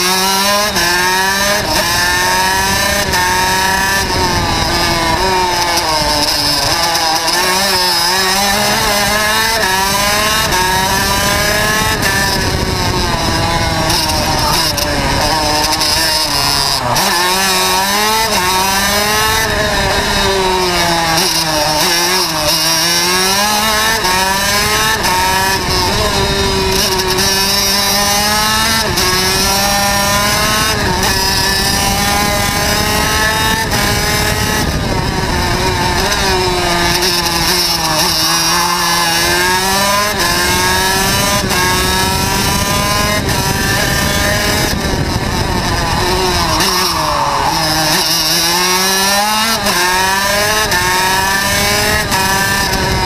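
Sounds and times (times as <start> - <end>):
rushing wind: 0.0 - 53.0
two-stroke kart engine revving: 0.0 - 53.0.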